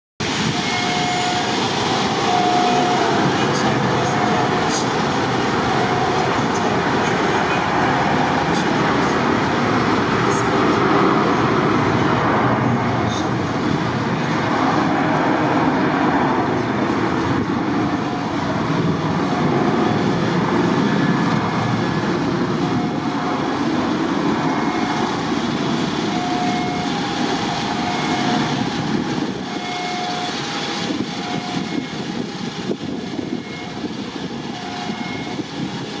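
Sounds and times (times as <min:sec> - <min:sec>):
jet engines at takeoff thrust: 0:00.2 - 0:36.0.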